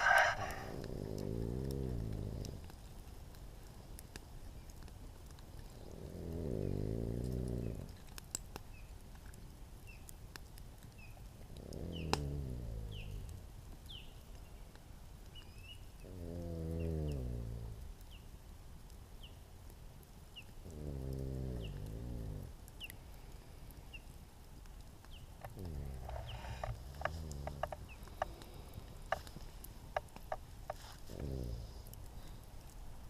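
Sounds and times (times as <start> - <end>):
campfire popping: 0.0 - 33.0.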